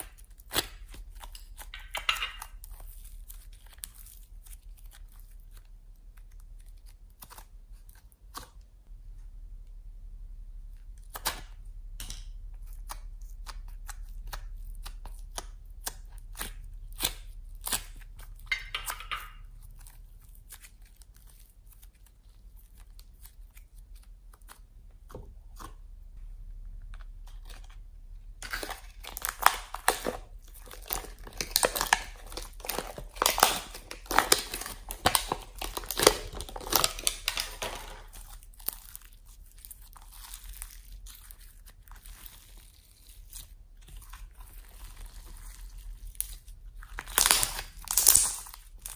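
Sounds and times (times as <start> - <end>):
slime clicking and crackling: 0.0 - 8.7, 11.0 - 26.0, 26.7 - 48.9.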